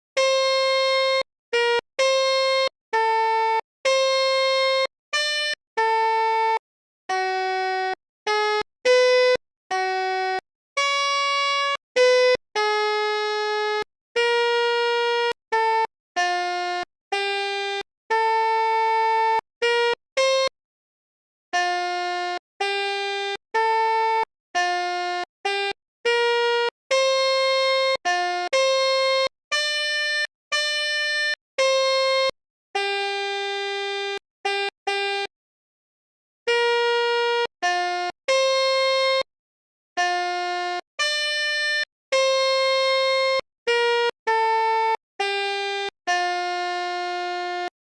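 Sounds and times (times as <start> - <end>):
multi-tone bus horn melody: 0.2 - 20.6, 21.5 - 35.4, 36.4 - 39.3, 40.0 - 47.9.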